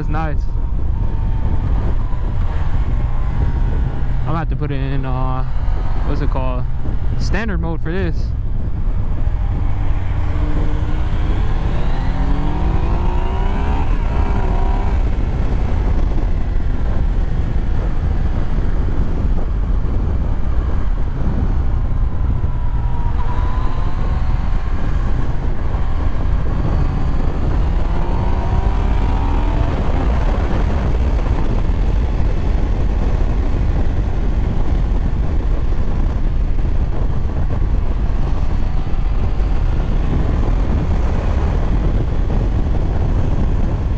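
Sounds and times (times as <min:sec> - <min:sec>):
wind and road noise: 0:00.0 - 0:43.9
motorcycle engine revving: 0:08.2 - 0:43.9.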